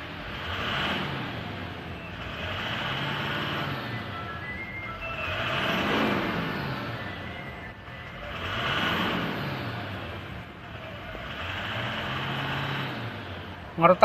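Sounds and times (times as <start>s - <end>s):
diesel engine idling and revving: 0.0s - 14.0s.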